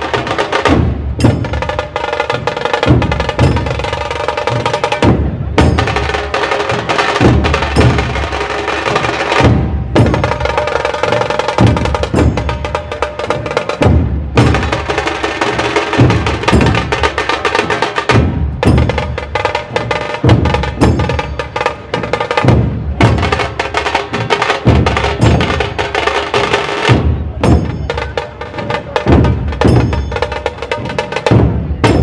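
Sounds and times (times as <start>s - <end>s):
fast crisp tasha drum strokes: 0.0s - 32.0s
heavy dhol drums: 0.0s - 32.0s.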